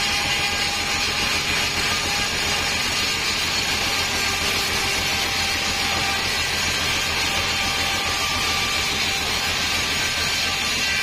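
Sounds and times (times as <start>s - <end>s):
bandsaw cutting wood: 0.0s - 11.0s.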